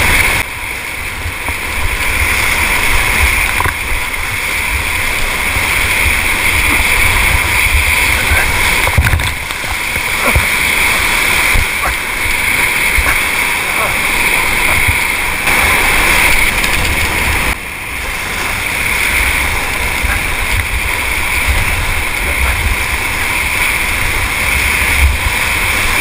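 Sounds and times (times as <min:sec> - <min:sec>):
whitewater rapids rushing: 0:00.0 - 0:26.0.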